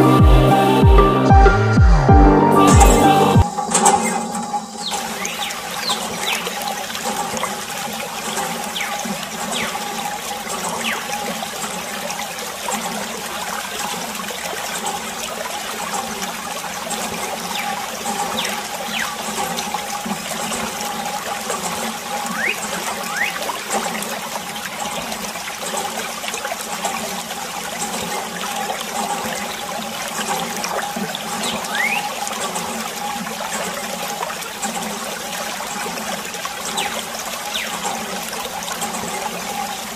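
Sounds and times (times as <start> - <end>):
water trickling and splashing: 3.4 - 39.9.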